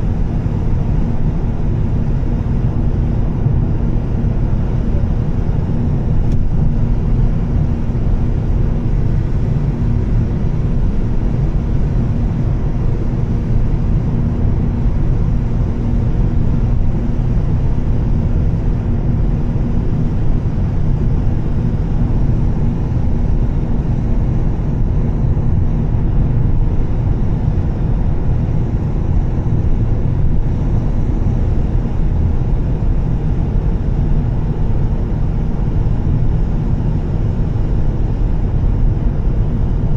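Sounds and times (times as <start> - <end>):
car engine drone: 0.0 - 39.9
road noise: 0.0 - 39.9
steady hum: 0.0 - 39.9.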